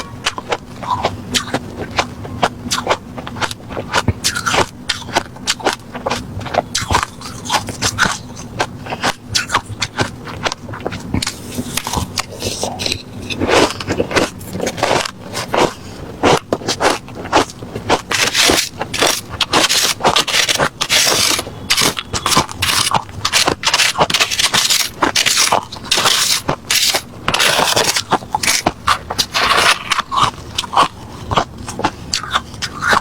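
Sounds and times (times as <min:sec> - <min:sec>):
crushed ice being chewed: 0:00.0 - 0:33.0.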